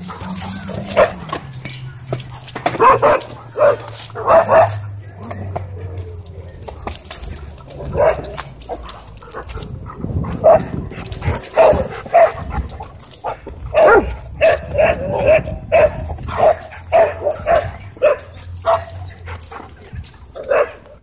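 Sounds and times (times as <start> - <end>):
dog barking: 0.0 - 6.1, 7.8 - 19.0, 20.4 - 21.0.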